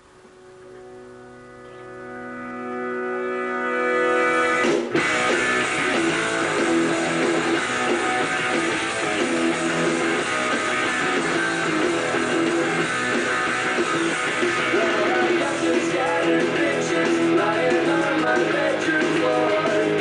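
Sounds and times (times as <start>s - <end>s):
guitar rock music: 0.0s - 20.0s.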